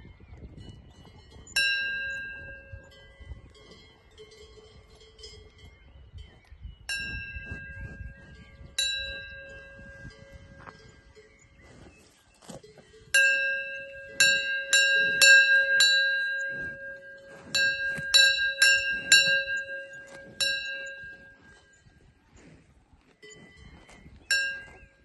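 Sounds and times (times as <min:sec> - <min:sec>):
cowbells ringing: 0:00.5 - 0:22.4, 0:23.0 - 0:25.0.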